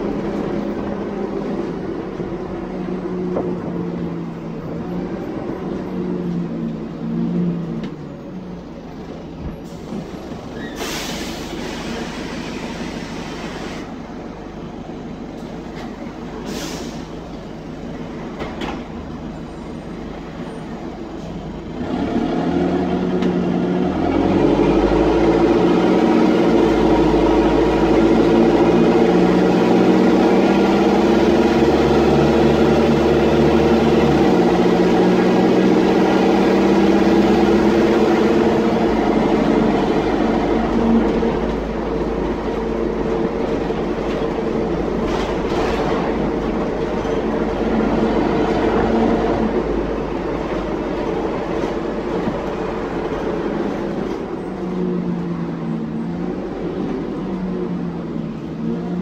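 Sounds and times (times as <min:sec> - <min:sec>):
bus diesel engine under load: 0:00.0 - 0:59.0.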